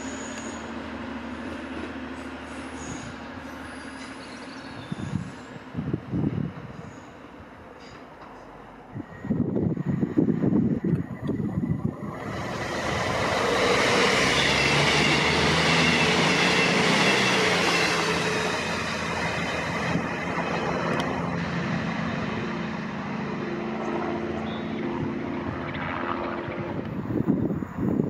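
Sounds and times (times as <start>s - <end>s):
train wheels on rail: 0.0s - 23.5s
diesel engine drone: 0.0s - 28.0s.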